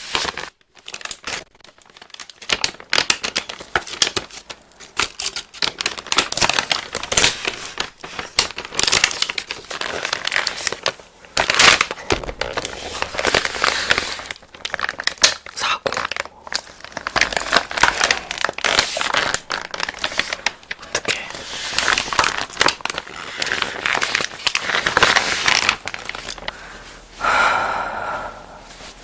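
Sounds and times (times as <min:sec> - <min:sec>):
packaging crinkling and tearing: 0:00.0 - 0:27.0.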